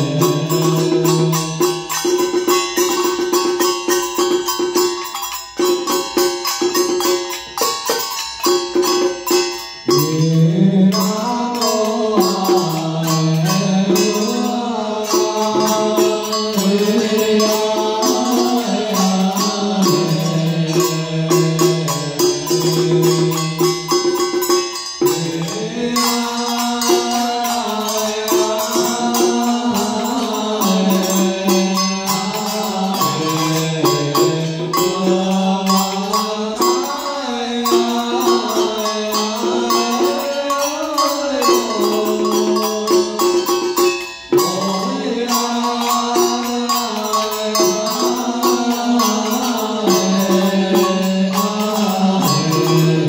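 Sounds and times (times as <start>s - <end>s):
person chanting a hymn: 0.0s - 1.7s, 9.9s - 23.4s, 25.0s - 43.6s, 44.3s - 53.0s
percussion strikes: 0.0s - 53.0s.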